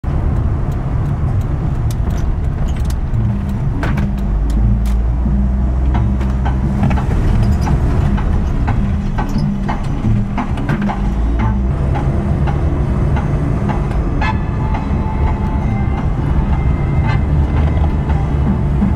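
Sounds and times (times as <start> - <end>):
sharp clicks and rattles: 0.0 - 5.1, 5.7 - 18.9
engine rumbling: 0.0 - 18.9.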